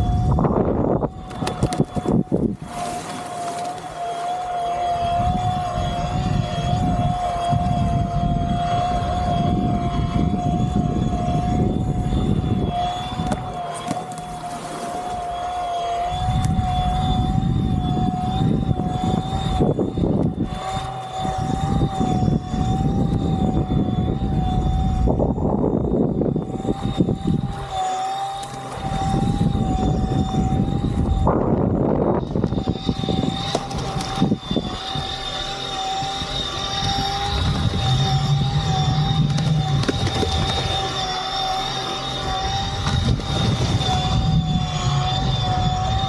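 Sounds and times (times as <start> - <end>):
electric motor whining: 0.0 - 46.0
wind rumble on microphone: 0.0 - 46.0.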